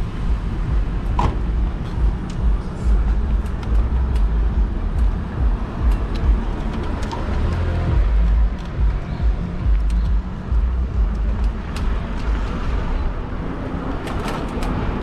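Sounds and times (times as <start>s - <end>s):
cars passing: 0.0s - 15.0s
heavy uneven low rumble: 0.0s - 15.0s.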